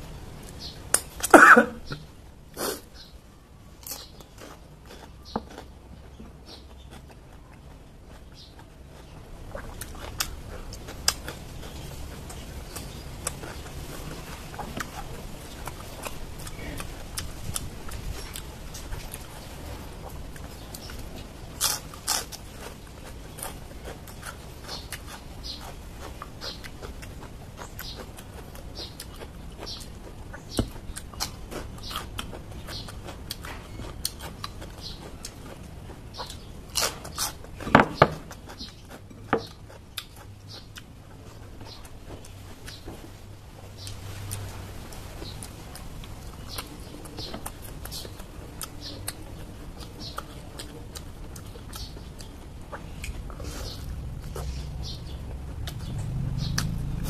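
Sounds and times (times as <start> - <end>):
person chewing crunchy vegetables: 0.0 - 57.0.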